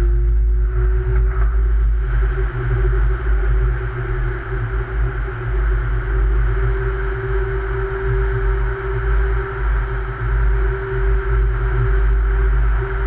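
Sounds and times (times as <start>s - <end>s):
steady mid-pitched whine: 0.0s - 13.0s
tunnel rumble and hiss: 0.0s - 13.0s.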